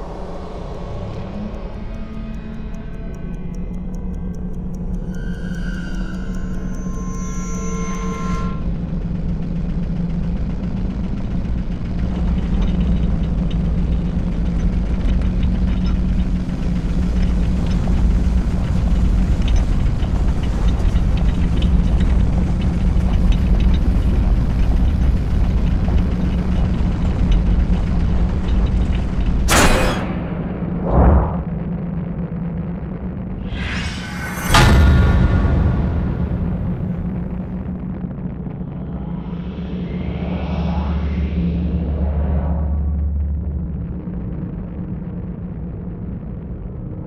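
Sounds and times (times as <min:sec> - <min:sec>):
low mechanical rumble and hum: 0:00.0 - 0:47.0.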